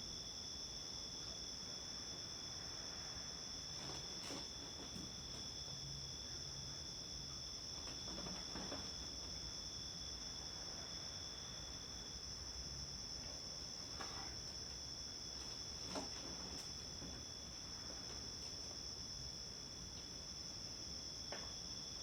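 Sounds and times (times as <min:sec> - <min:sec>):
night insects chorus: 0:00.0 - 0:22.0.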